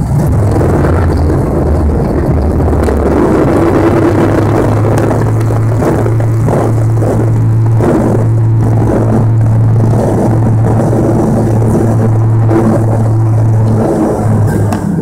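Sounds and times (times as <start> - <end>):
turboprop engines droning in cabin: 0.0 - 15.0.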